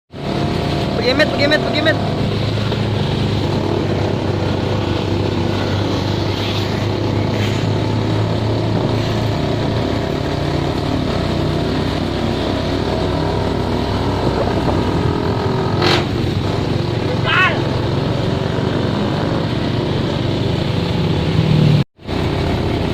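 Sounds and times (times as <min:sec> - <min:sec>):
boat engine running: 0:00.1 - 0:22.9.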